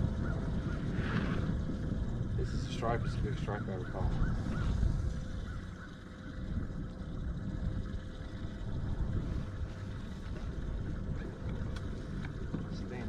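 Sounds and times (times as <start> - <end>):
faint steady hum: 0.0 - 13.0
wind and water rumbling: 0.0 - 13.0.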